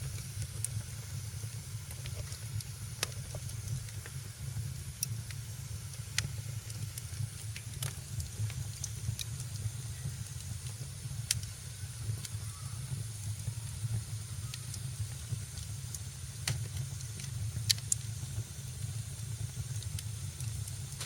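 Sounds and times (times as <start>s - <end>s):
fire crackling and popping: 0.0s - 21.0s
fire rumbling and hissing: 0.0s - 21.0s.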